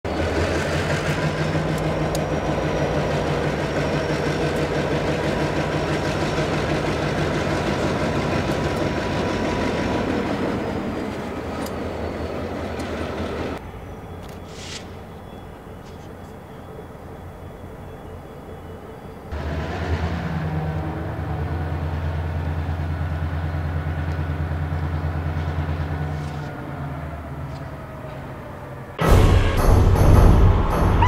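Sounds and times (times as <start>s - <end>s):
diesel locomotive engine running: 0.0s - 31.0s
distant rail yard background: 0.0s - 31.0s.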